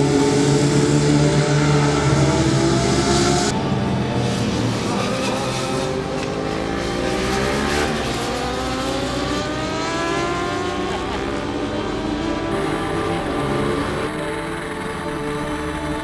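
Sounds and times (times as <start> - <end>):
racing engine accelerating: 0.0 - 16.0.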